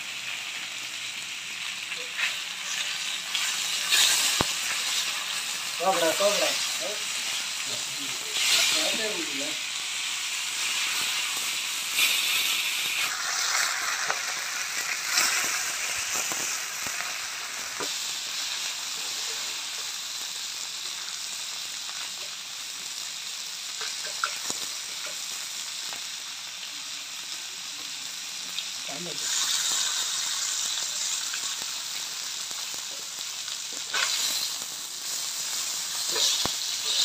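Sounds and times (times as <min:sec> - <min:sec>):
fish sizzling in oil: 0:00.0 - 0:37.0
spattering oil crackles: 0:00.0 - 0:37.0.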